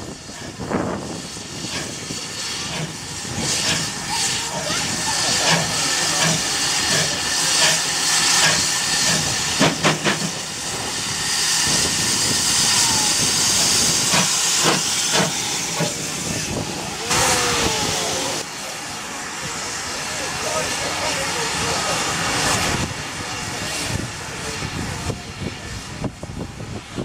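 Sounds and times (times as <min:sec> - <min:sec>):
sharp steam puffs: 0:00.0 - 0:27.0
steam hissing: 0:00.0 - 0:27.0.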